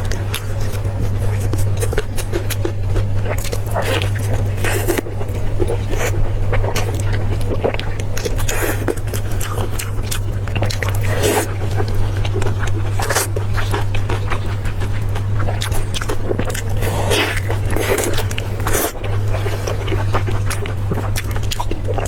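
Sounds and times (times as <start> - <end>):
biting and chewing: 0.0 - 22.0
steady low hum: 0.0 - 22.0.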